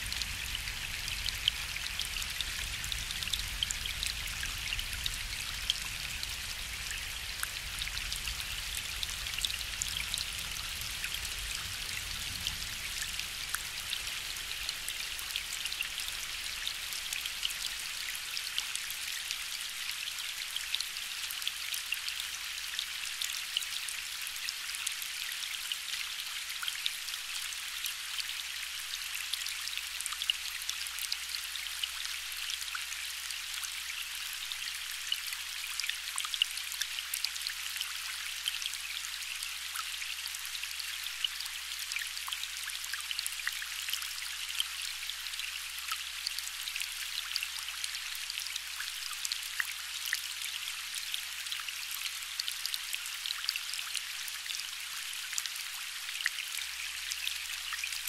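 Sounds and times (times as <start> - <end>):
rain falling on a lake: 0.0 - 58.0.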